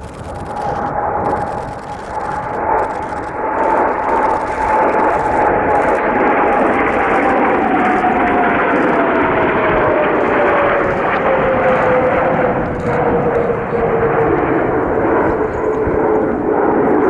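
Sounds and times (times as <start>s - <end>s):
high jet whine: 0.0s - 17.0s
jet roar flying past: 0.0s - 17.0s.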